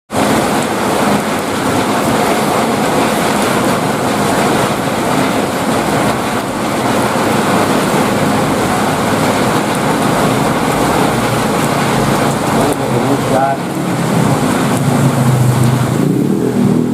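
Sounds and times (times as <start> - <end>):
heavy rain pouring: 0.1 - 16.9.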